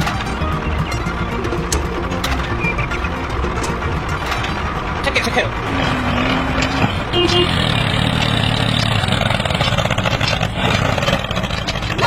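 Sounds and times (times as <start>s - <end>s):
toy tractor engine drone: 0.0s - 12.0s.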